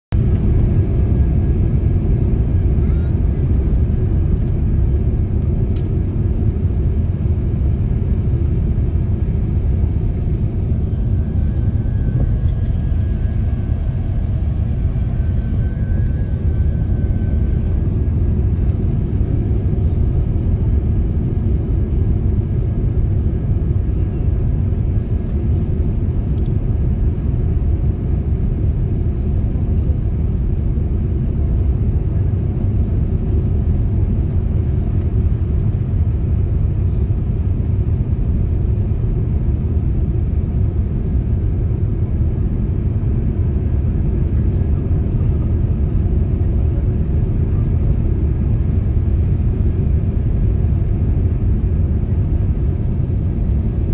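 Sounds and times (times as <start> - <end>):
airplane cabin engine rumble: 0.1 - 53.9.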